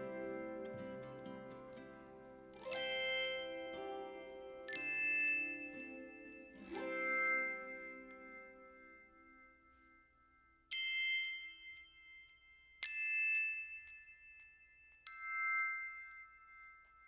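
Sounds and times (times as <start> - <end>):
bell-like chime notes: 0.0 - 17.0.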